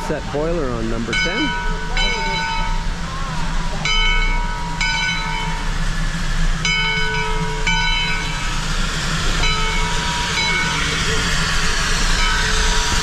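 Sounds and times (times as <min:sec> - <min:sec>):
locomotive bell ringing: 0:00.0 - 0:13.0
steam locomotive rolling past: 0:00.0 - 0:13.0.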